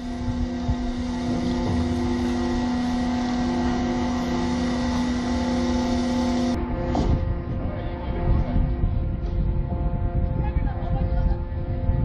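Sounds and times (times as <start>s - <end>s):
machine engine humming: 0.0s - 12.0s.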